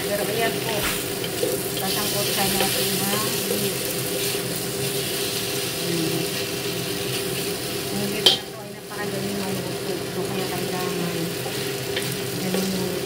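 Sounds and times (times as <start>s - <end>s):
low machine hum: 0.0s - 13.0s
meat sizzling in a wok: 0.0s - 13.0s.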